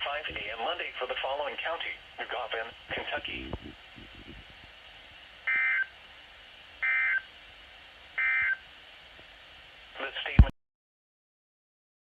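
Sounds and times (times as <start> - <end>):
faint hiss: 0.0 - 10.5.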